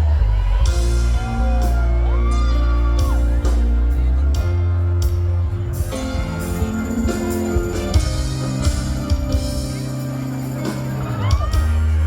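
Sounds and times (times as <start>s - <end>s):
drums: 0.0s - 12.0s
heavy bass line: 0.0s - 12.0s
gliding melodic line: 0.7s - 12.0s.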